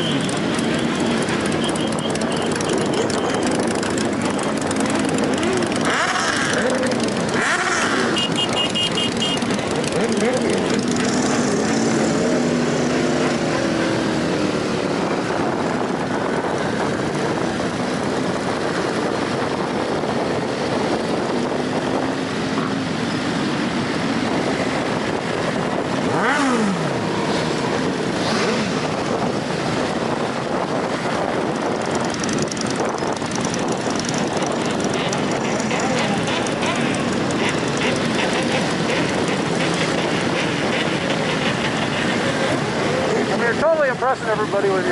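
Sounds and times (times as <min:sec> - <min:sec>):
motorcycle passing close: 0:00.0 - 0:44.9
motorcycle traffic din: 0:00.0 - 0:44.9.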